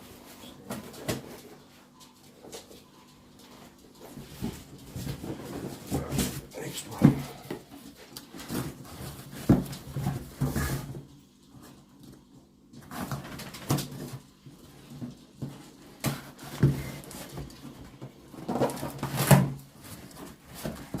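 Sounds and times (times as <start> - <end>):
knocks and rustles of packaging: 0.1 - 2.9, 3.5 - 21.0.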